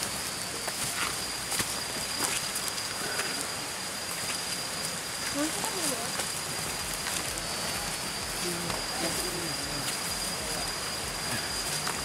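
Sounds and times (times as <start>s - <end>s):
footsteps on leaf litter: 0.0s - 12.0s
insect high-pitched note: 0.0s - 12.0s.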